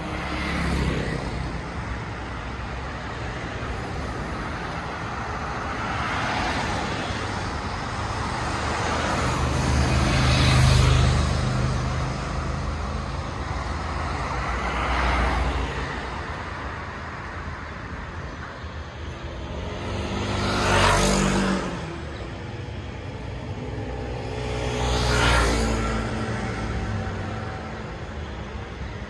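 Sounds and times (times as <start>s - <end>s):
vehicles driving past: 0.0s - 29.0s.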